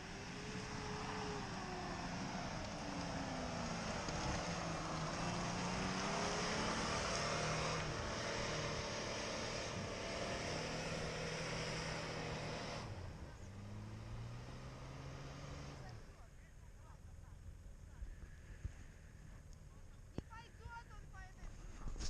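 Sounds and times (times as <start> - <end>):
off-road vehicle engine under load: 0.0 - 22.0.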